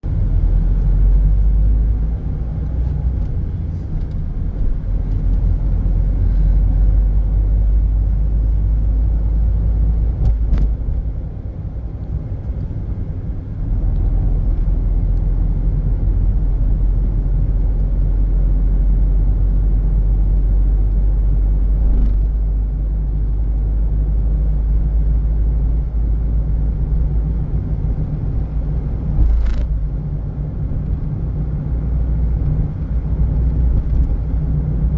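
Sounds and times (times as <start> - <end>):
vehicle rumble: 0.0 - 34.9.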